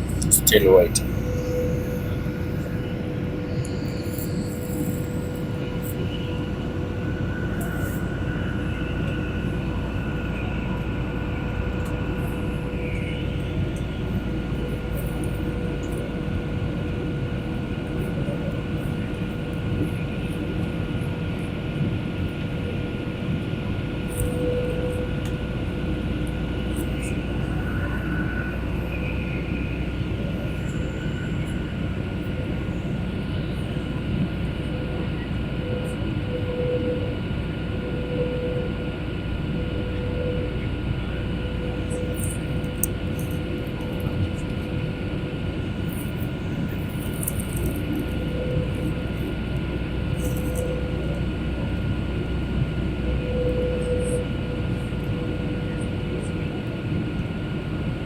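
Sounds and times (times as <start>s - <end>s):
airliner cabin engine rumble: 0.0s - 58.0s
steady hum: 0.0s - 58.0s.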